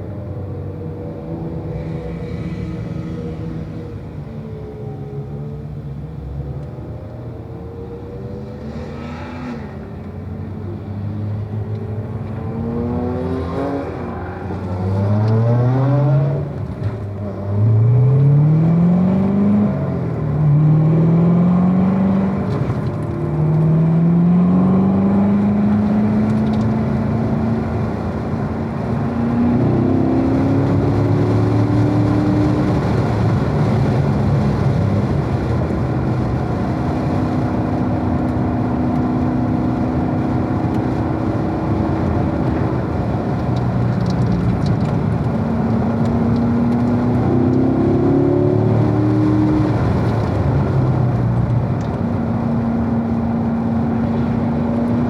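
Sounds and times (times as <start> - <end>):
car engine accelerating through gears: 0.3 - 55.0.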